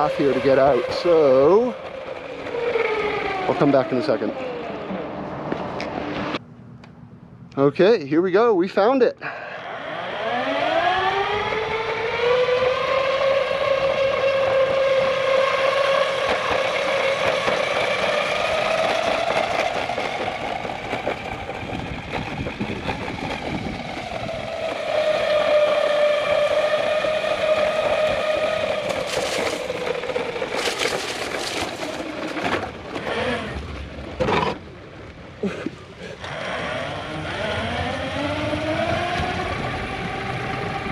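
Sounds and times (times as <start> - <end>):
electric skateboard motors whining: 0.0 - 6.4, 9.2 - 34.6, 36.2 - 40.9.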